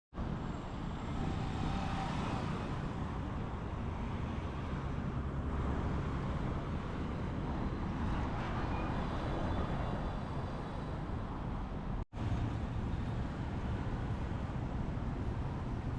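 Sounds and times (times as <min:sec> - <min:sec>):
road noise from passing vehicles: 0:00.1 - 0:15.9.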